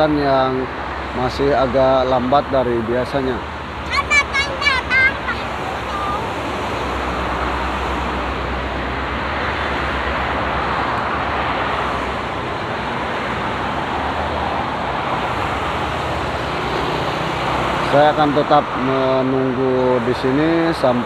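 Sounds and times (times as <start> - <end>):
road traffic rushing: 0.0 - 21.0.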